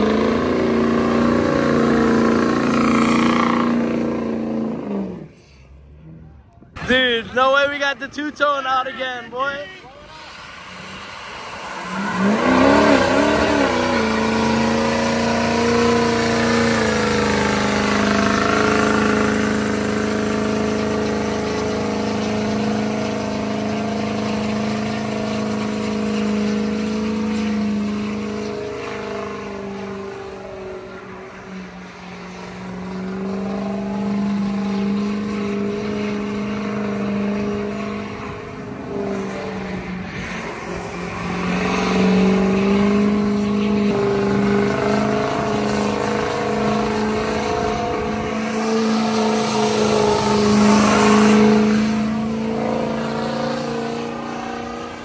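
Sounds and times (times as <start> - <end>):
diesel pickup engine revving: 0.0 - 55.0.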